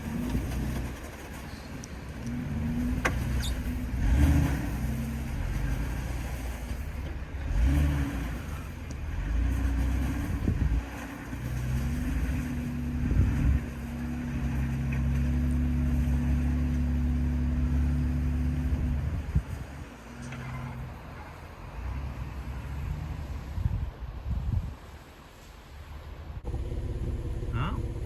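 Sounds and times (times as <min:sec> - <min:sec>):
car engine running under load: 0:00.0 - 0:28.0.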